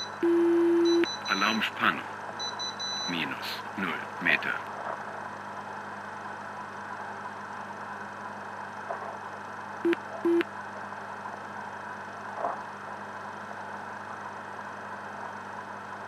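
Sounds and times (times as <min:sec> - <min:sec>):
electrical hum and hiss: 0:00.0 - 0:16.0.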